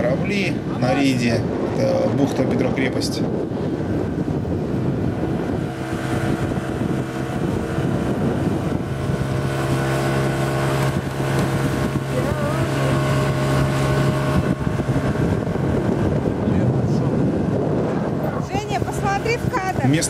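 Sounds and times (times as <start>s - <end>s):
outboard engine running: 0.0s - 20.0s
wind on microphone: 0.0s - 20.0s.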